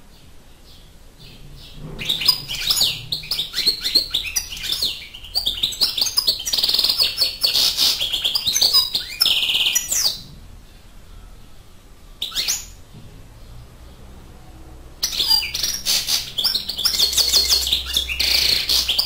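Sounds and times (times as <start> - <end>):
bird twittering song: 0.0 - 14.1, 15.0 - 19.0.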